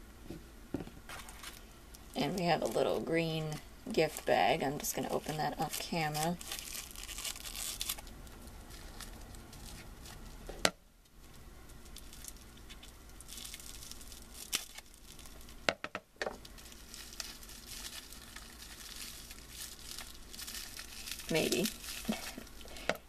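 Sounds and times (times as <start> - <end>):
bubble wrap crinkling: 1.0 - 23.0
bubble wrap snapping: 1.0 - 23.0.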